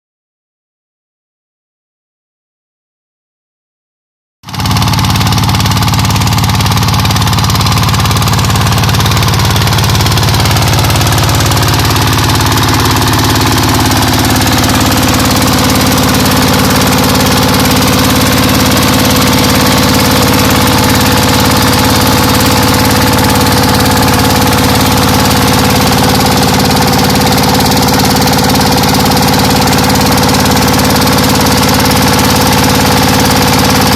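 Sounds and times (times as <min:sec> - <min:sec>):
diesel engine idling: 0:04.6 - 0:33.9.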